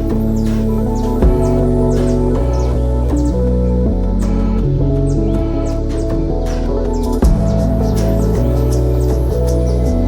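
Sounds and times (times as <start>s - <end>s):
ambient synthesizer chords: 0.0s - 10.0s.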